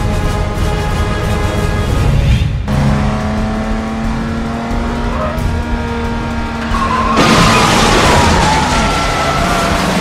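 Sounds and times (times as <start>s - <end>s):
car engine drone: 0.1s - 10.0s.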